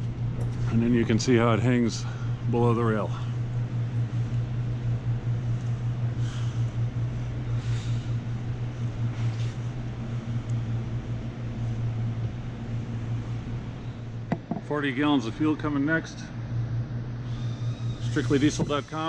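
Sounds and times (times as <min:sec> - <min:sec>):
low pulsing hum: 0:00.0 - 0:19.0.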